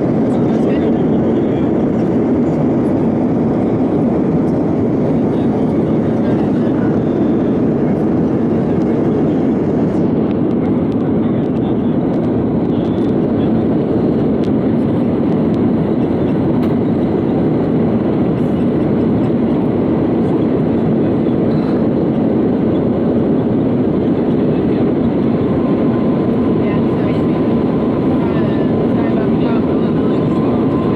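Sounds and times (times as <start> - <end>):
airliner cabin engine rumble: 0.0 - 30.9.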